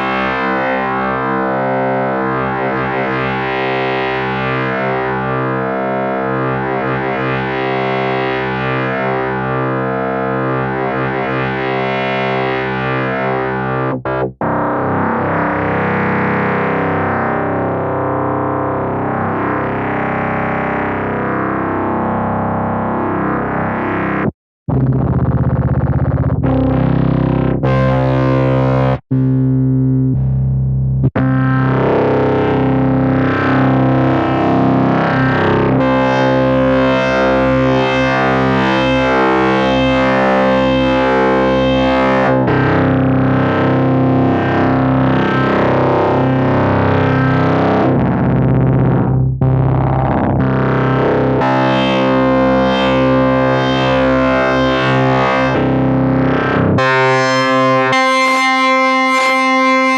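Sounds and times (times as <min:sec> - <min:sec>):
distorted synthesizer chords: 0:00.0 - 0:59.9.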